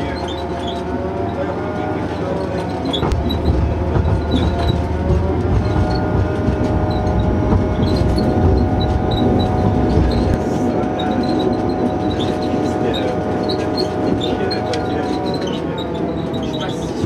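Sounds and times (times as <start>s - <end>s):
constant hum: 0.0s - 17.0s
train rumbling along: 0.0s - 17.0s.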